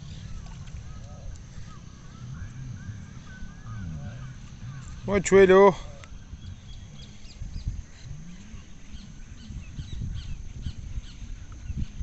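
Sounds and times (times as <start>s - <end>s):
birds chirping: 0.0s - 12.0s
wind rumble on microphone: 0.0s - 12.0s.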